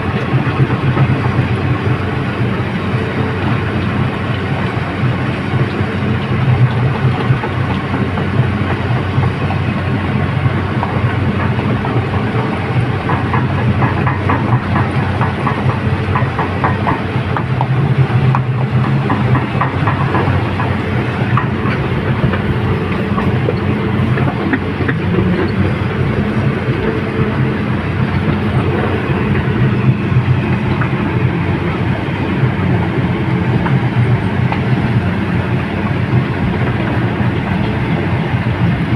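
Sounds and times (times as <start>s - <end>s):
excavator diesel engine running: 0.0s - 38.9s
steel tracks rattling and clanking: 0.0s - 38.9s.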